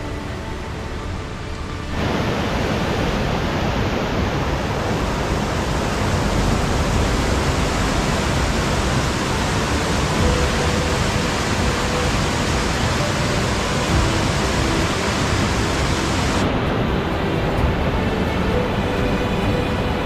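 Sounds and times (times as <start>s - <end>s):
background music: 0.0s - 20.0s
water rushing through rocky gorge: 0.0s - 20.0s.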